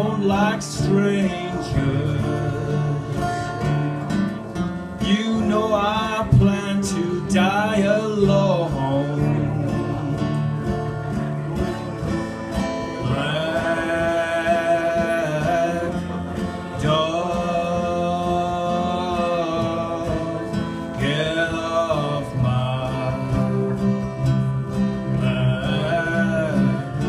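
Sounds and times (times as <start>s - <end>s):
strummed acoustic guitars: 0.0s - 27.0s.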